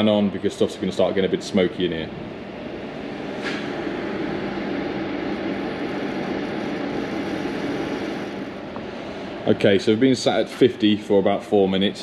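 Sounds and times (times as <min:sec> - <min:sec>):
faint hum: 0:00.0 - 0:12.0
welder cooling fan whirring: 0:00.0 - 0:12.0.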